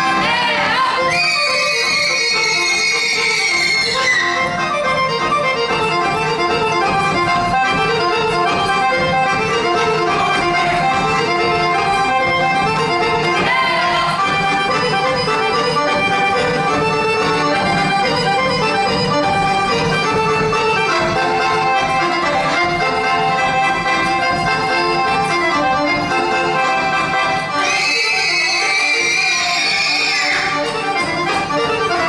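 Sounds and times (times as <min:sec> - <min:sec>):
accordion: 0:00.0 - 0:32.0
fiddle: 0:00.0 - 0:32.0.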